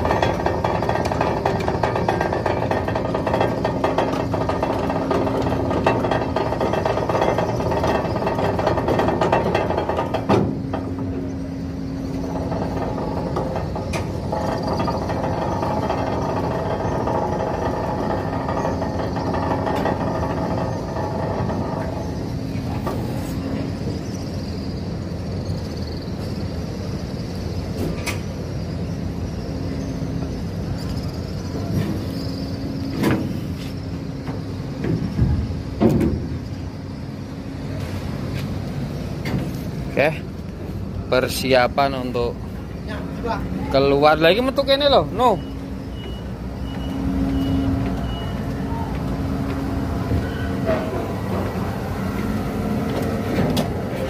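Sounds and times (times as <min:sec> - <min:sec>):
ferry machinery humming: 0:00.0 - 0:54.0.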